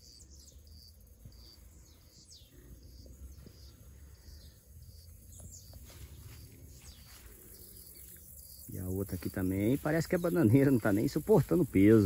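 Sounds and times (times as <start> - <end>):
bird chirps: 0.0 - 12.0
insects chirring: 0.0 - 12.0.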